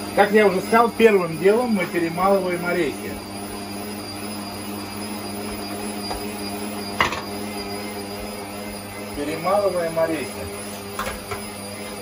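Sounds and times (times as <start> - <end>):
meat grinder motor hum: 0.0 - 12.0.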